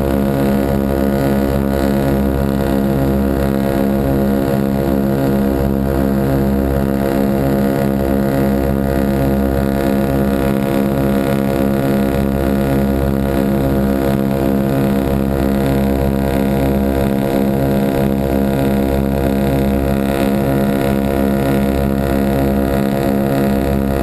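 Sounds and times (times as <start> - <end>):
propeller aircraft engines droning: 0.0 - 24.0.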